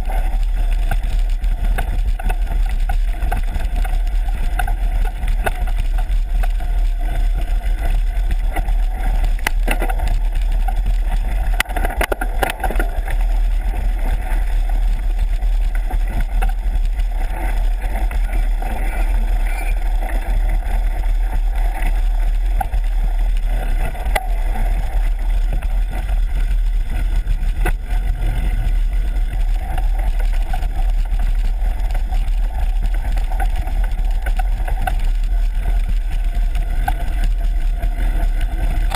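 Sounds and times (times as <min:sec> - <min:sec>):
bike rattles and knocks: 0:00.0 - 0:38.9
tyres rumbling on dirt: 0:00.0 - 0:38.9
wind buffeting microphone: 0:00.0 - 0:38.9.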